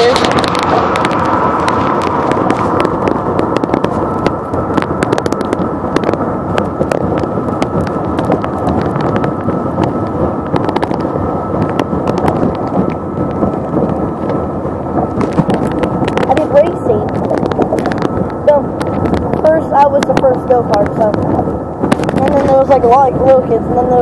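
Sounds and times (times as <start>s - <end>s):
car cabin road rumble: 0.0s - 24.0s
sharp clicks and crackles: 0.0s - 24.0s.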